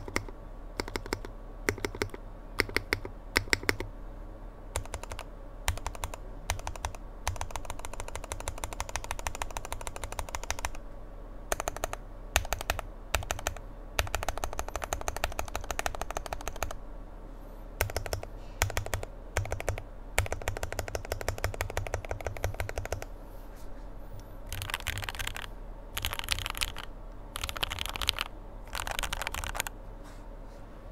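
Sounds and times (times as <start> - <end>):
mechanical keyboard typing: 0.0 - 3.9, 4.8 - 10.8, 11.5 - 16.8, 17.8 - 23.1, 24.5 - 29.7.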